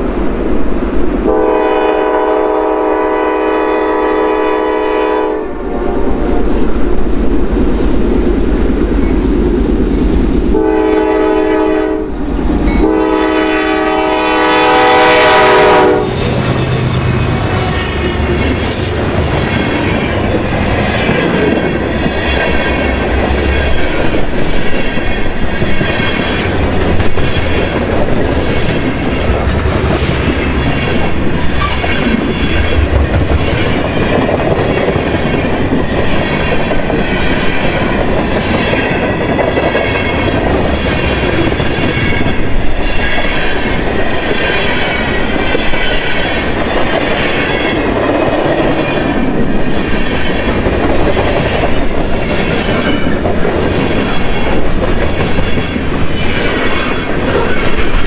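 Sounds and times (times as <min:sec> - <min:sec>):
freight train rumbling past: 0:00.0 - 0:58.0
wheels squealing on rail: 0:10.6 - 0:58.0.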